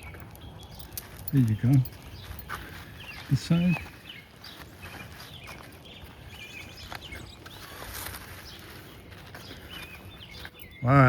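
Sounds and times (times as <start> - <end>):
birds chirping and calling: 0.0 - 11.0
faint outdoor background noise: 0.0 - 11.0.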